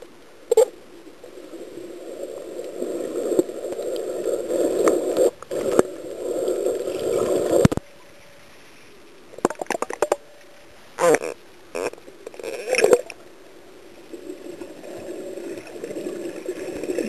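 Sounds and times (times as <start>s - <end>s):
underwater churning and bubbling: 0.0s - 8.3s, 11.0s - 17.0s
low hiss: 0.0s - 17.0s.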